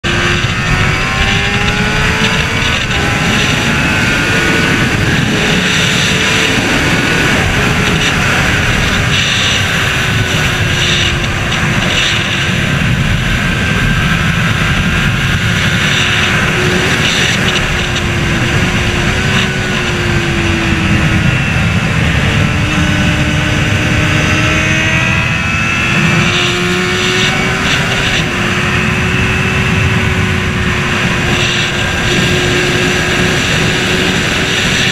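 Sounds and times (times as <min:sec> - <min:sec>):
motorcycle engine running: 0:00.0 - 0:34.9
wind noise on microphone: 0:00.0 - 0:34.9.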